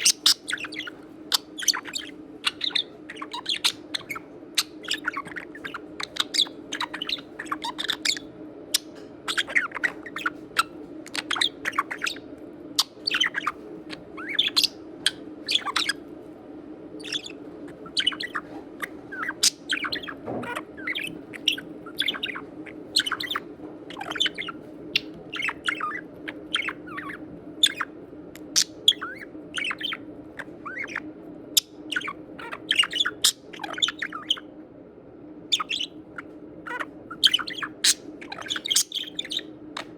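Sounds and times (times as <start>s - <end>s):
budgerigar chirping and squawking: 0.0s - 16.0s, 17.0s - 34.5s, 35.5s - 39.9s
steady low hum: 0.0s - 39.9s.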